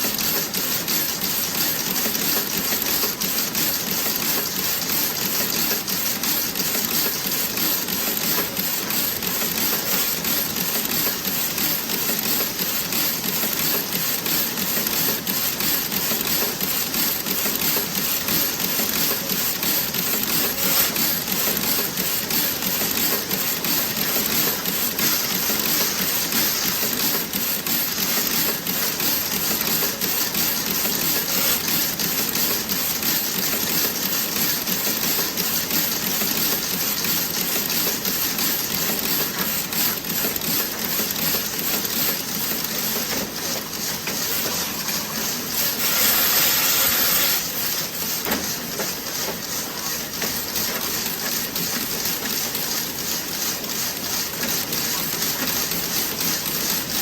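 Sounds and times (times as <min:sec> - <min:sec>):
knitting machine clattering: 0:00.1 - 0:49.5.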